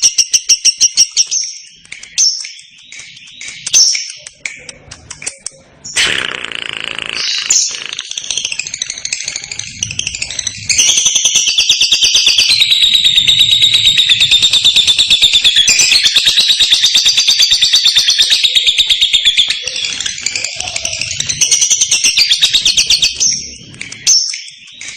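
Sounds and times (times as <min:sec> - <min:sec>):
bird high-pitched chattering trill: 0:00.0 - 0:24.9.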